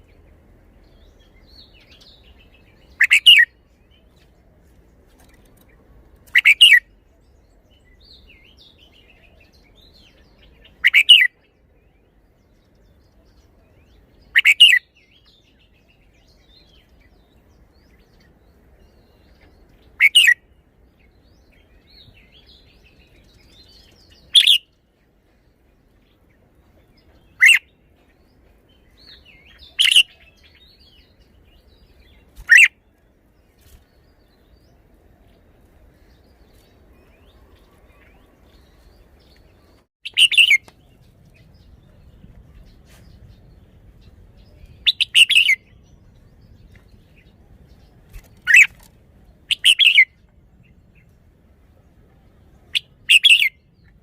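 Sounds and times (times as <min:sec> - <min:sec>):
bird singing sharp phrases: 0:00.0 - 0:54.0.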